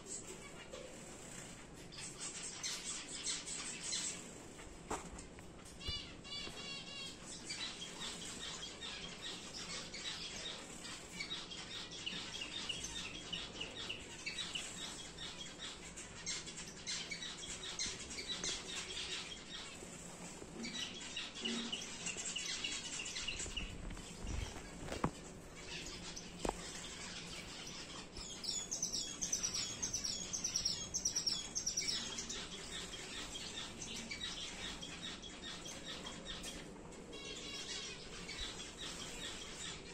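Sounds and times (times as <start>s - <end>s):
finches chirping and calling: 0.0s - 39.9s.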